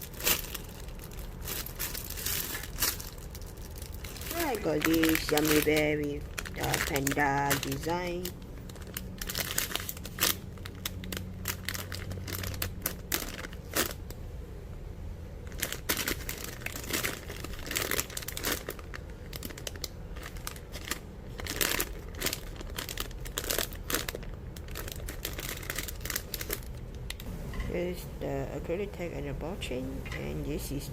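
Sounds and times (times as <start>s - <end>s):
plastic packaging crinkling: 0.0s - 14.2s, 15.4s - 27.2s.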